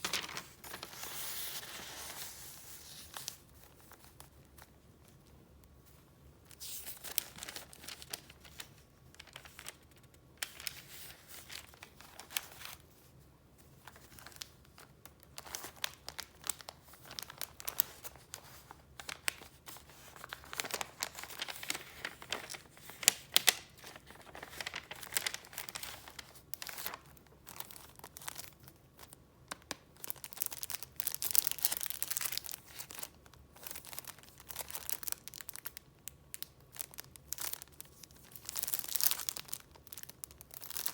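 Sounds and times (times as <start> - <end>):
paper rustling and crinkling: 0.0 - 35.8, 36.4 - 40.9.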